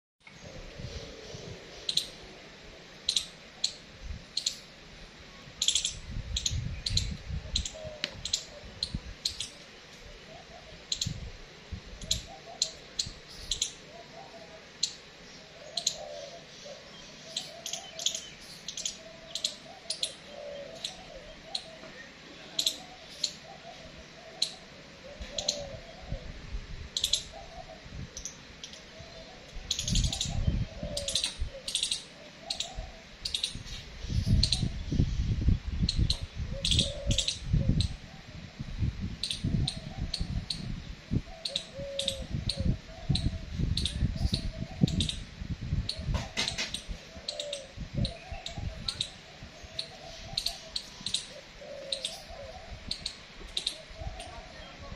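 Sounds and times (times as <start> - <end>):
soft wavering animal calls: 0.3 - 4.8, 5.4 - 35.0, 35.9 - 38.6, 39.2 - 54.9
small animals chirping: 1.7 - 2.2, 3.0 - 4.7, 5.6 - 9.6, 10.4 - 11.2, 12.0 - 15.0, 15.6 - 21.9, 22.5 - 25.8, 27.0 - 34.8, 35.8 - 38.0, 39.2 - 40.8, 41.4 - 45.3, 45.9 - 54.9.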